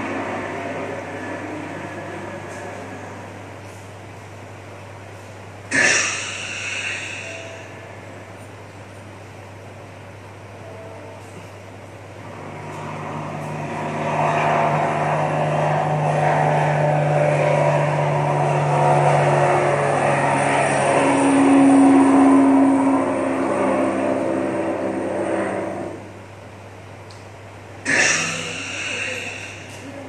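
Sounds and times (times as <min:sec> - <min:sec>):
higher steady hum: 0:00.0 - 0:30.0
vehicle engine hum: 0:00.0 - 0:30.0.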